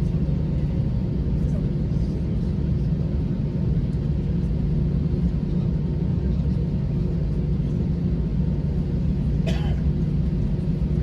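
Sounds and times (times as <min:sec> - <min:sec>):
low aircraft cabin rumble: 0:00.0 - 0:11.0.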